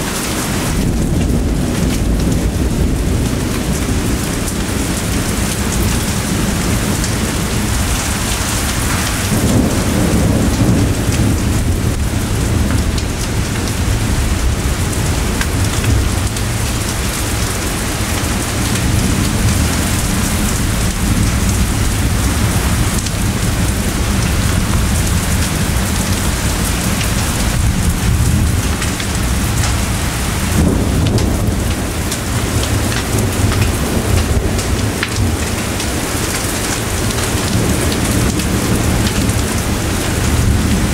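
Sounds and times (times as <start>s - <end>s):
heavy rain falling: 0.0s - 40.9s
rolling thunder: 0.7s - 40.9s.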